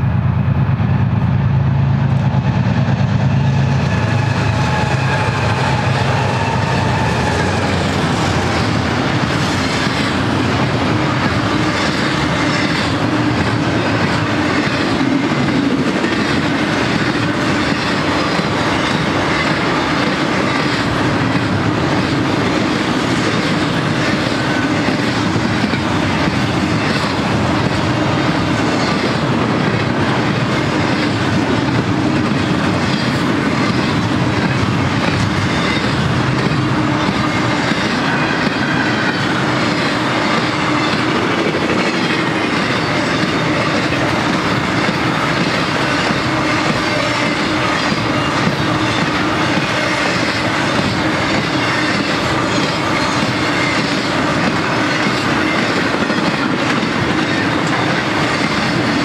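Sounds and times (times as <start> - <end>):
freight train wheels rumbling: 0.0 - 59.0
wheels clacking on track: 2.2 - 59.0.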